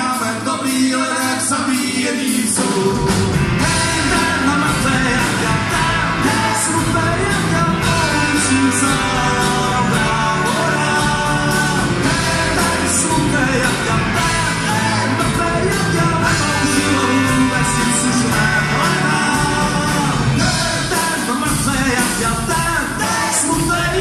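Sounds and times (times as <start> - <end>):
live rock band with singing: 0.0 - 24.0.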